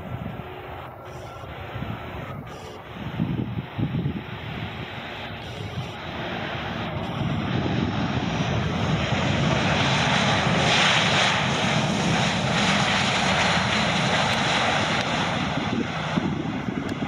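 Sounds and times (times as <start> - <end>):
jet engines running loud: 0.0 - 17.0.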